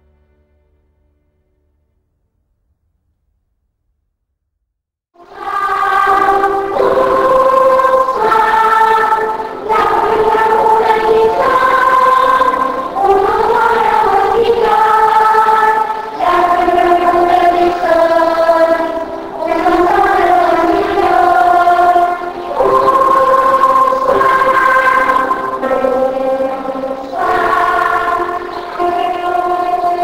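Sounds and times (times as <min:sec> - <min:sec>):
choir singing sustained chords: 0:05.2 - 0:30.0.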